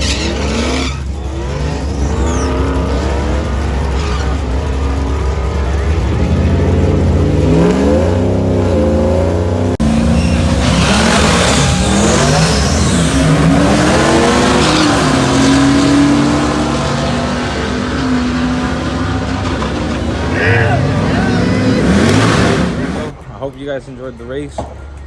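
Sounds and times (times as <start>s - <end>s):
race engines accelerating hard: 0.0s - 23.3s.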